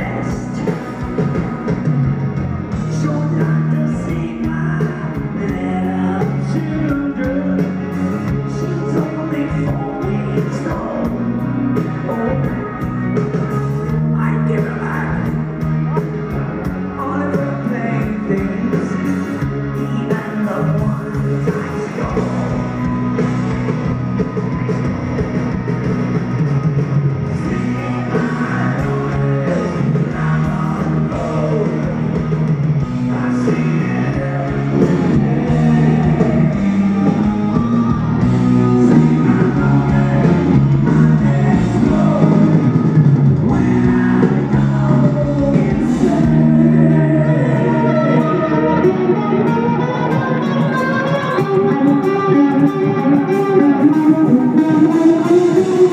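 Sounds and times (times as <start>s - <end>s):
lead vocal singing: 0.0s - 1.5s, 2.7s - 12.9s, 16.8s - 23.2s, 27.3s - 55.9s
live rock band playing: 0.0s - 55.9s.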